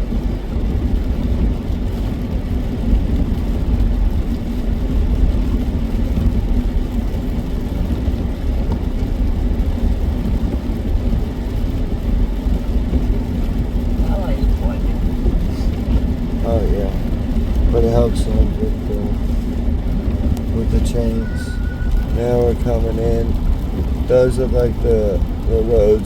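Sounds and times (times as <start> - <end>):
car cabin road and engine noise: 0.0 - 26.0.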